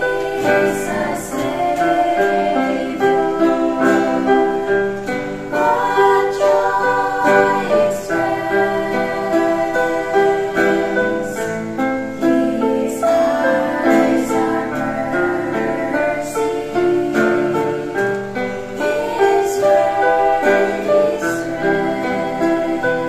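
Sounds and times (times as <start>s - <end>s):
girls singing together: 0.0s - 23.0s
instrumental accompaniment: 0.0s - 23.0s.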